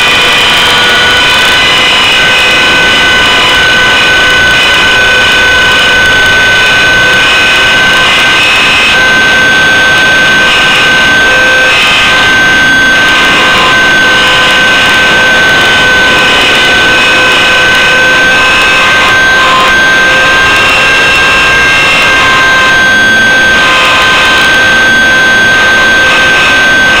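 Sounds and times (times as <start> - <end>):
model helicopter whining: 0.0 - 27.0.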